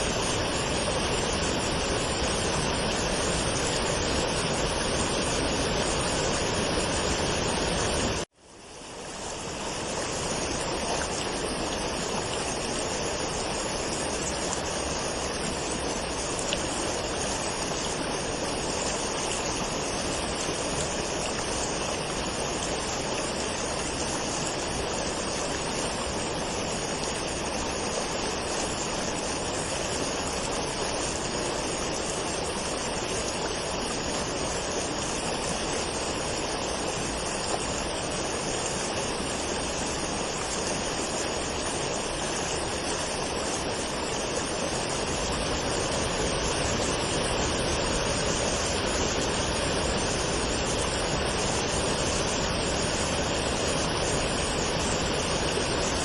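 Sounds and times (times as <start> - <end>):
waterfall rushing: 0.0 - 8.3, 9.0 - 56.0.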